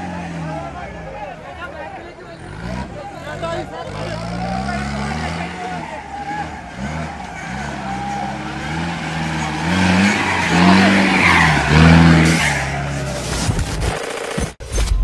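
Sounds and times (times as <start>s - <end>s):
jeep engine revving: 0.0s - 13.4s.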